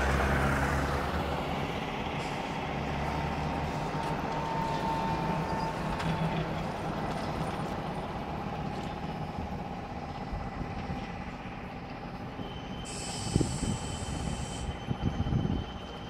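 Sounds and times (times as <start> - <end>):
trolleybus electric whine: 0.0 - 16.0
tyre and road noise: 0.0 - 16.0.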